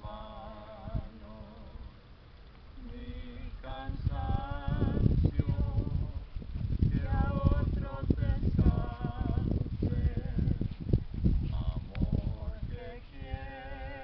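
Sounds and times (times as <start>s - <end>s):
low noisy rumble: 0.0s - 14.0s.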